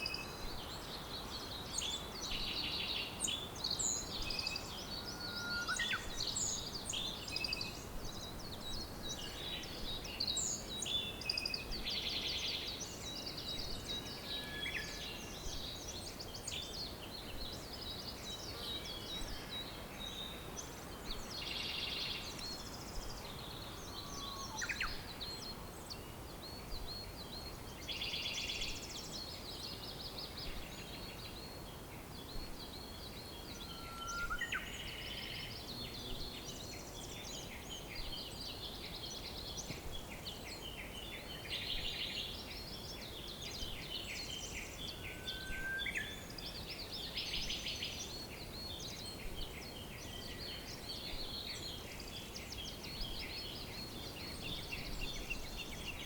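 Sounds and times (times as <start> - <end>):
background hiss: 0.0 - 56.0
songbirds chirping and trilling: 0.0 - 56.0.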